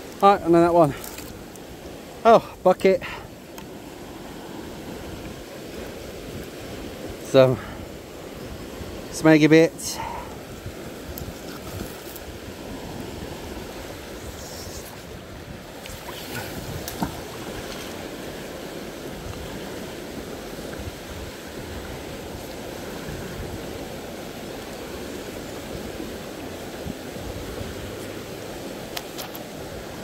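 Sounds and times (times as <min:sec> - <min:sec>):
river water over rapids: 0:00.0 - 0:30.0.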